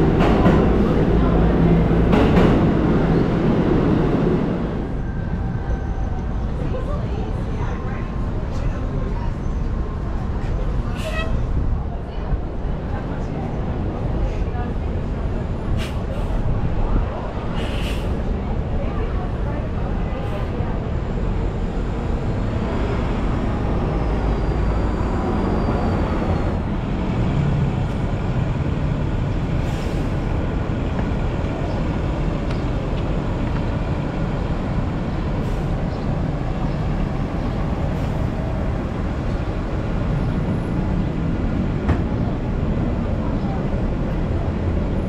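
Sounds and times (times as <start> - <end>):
bus engine moving off: 0.0 - 45.0
intersection traffic: 0.0 - 45.0.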